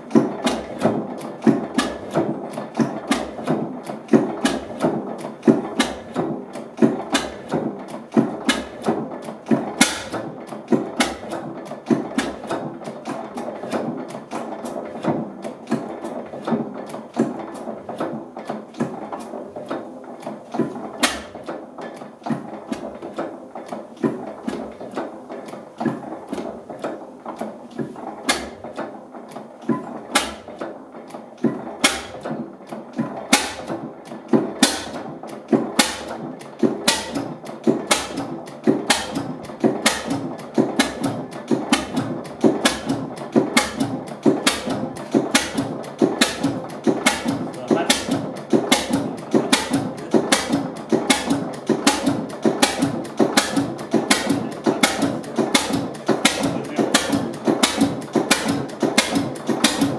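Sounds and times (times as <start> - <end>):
stationary engine clattering: 0.0 - 59.9.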